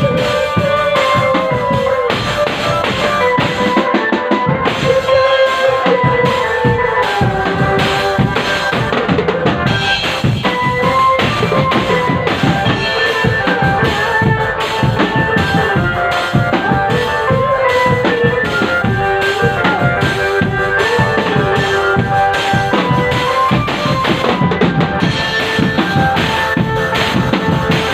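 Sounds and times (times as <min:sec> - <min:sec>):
bass and snare drums beating: 0:00.0 - 0:27.9
melody of held notes: 0:00.0 - 0:27.9.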